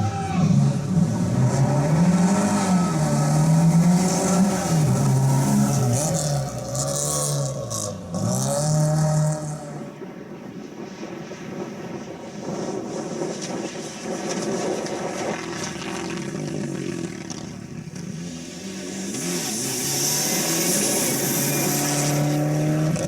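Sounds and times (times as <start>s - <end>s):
rally car engine revving: 0.0s - 10.0s, 12.6s - 23.0s.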